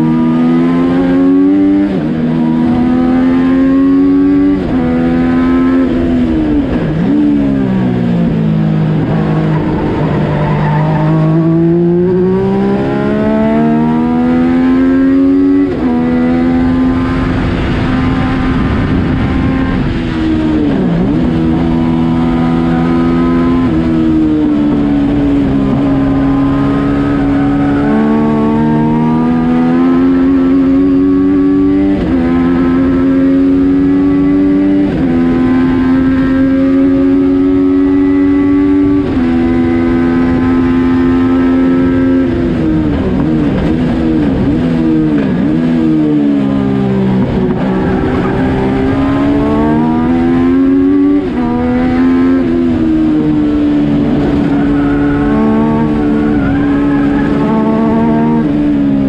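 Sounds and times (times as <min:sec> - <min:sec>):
motorcycle engine revving high: 0:00.0 - 0:59.0.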